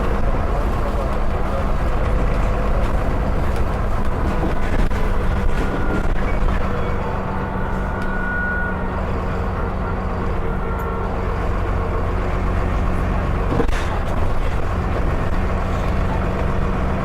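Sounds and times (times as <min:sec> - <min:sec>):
bus diesel engine humming: 0:00.0 - 0:17.0.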